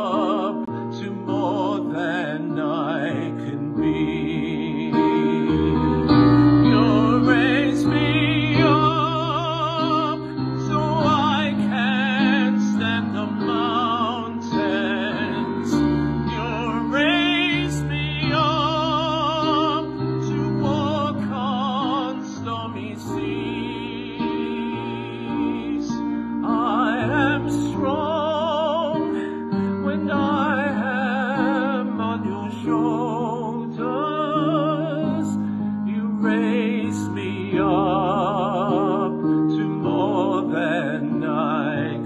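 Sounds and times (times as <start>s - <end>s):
man singing with vibrato: 0.0s - 42.0s
sustained keyboard accompaniment: 0.0s - 42.0s.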